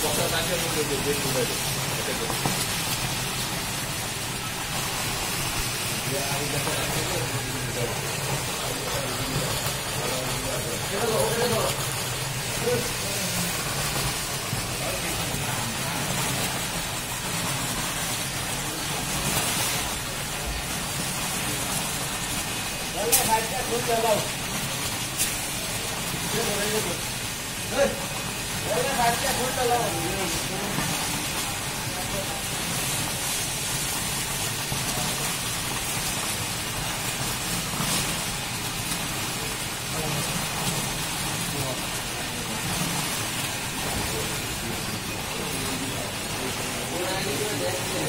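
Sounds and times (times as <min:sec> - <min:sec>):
steady machine hum: 0:00.0 - 0:48.0
water gushing and splashing: 0:00.0 - 0:48.0.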